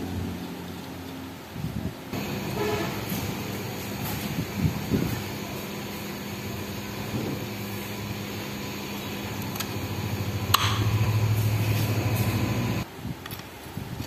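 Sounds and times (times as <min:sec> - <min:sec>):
low machine hum: 0:00.0 - 0:12.8.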